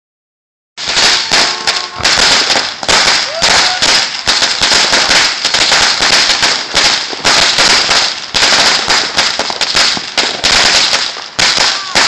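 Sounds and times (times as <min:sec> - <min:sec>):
firecrackers crackling: 0:00.8 - 0:12.0.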